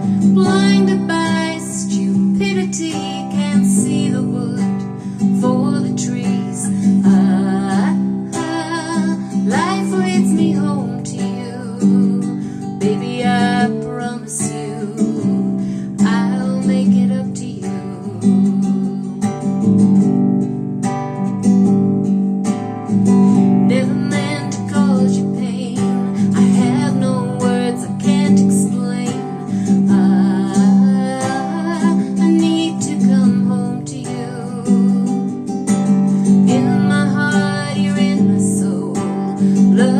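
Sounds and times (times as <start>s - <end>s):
woman singing: 0.0s - 19.7s, 23.3s - 39.9s
strummed acoustic guitar: 0.0s - 39.9s.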